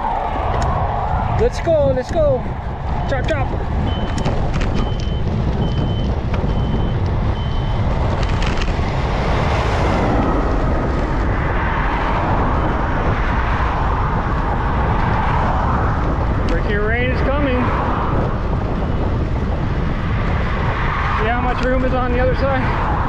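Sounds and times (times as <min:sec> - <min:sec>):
highway traffic: 0:00.0 - 0:23.0
vehicle passing: 0:00.0 - 0:23.0
wind on microphone: 0:00.0 - 0:23.0.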